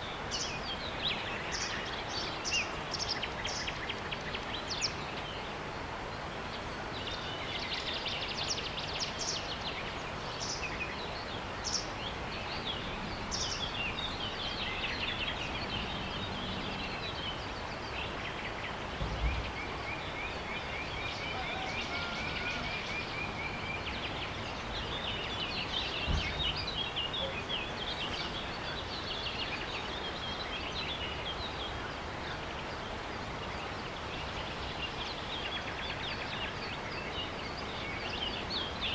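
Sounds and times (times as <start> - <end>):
small birds chirping: 0.0 - 38.9
steady background hiss: 0.0 - 38.9.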